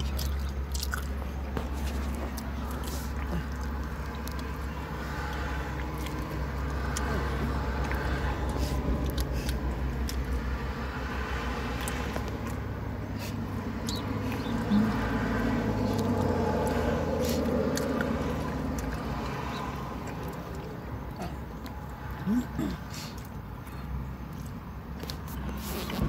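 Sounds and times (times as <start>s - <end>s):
chewing: 0.0s - 26.0s.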